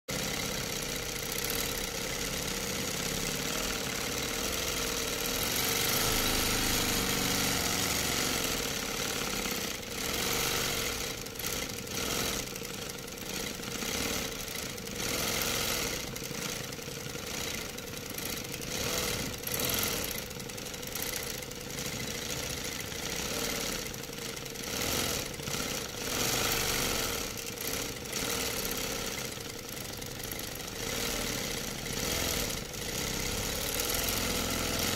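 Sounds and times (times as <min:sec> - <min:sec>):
quilting machine humming: 0:00.1 - 0:34.9.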